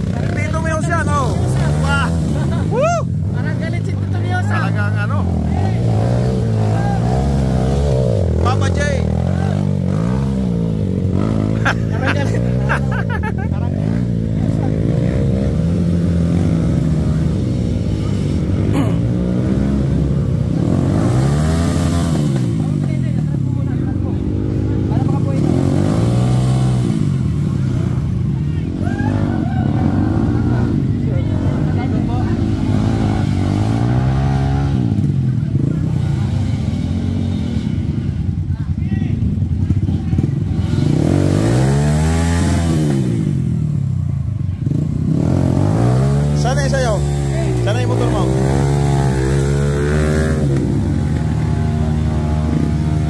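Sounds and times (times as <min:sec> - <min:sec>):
dirt bike engine revving: 0:00.0 - 0:38.5, 0:39.2 - 0:53.0.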